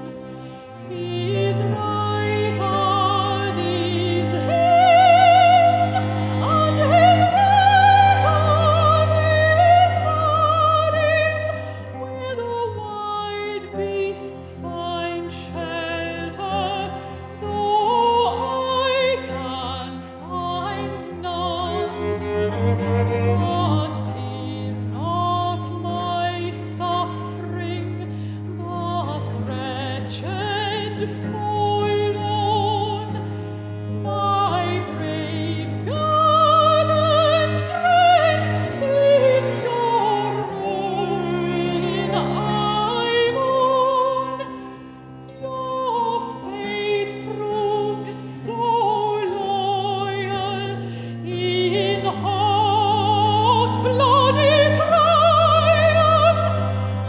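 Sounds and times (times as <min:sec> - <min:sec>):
bowed cello low notes: 0:00.0 - 0:57.0
woman singing classical song: 0:00.0 - 0:57.0.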